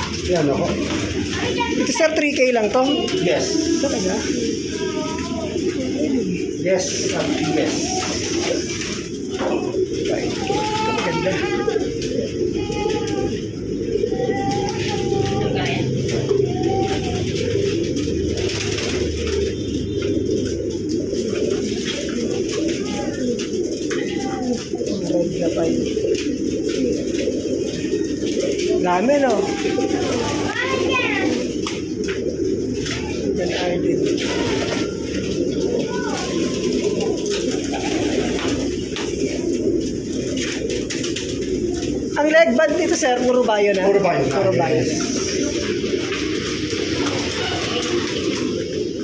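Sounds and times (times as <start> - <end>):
pigeons cooing: 0.0 - 49.0.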